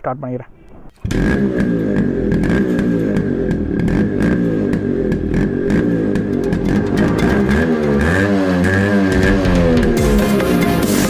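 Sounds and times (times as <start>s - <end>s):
two-stroke motorcycle engine revving: 1.0s - 11.0s.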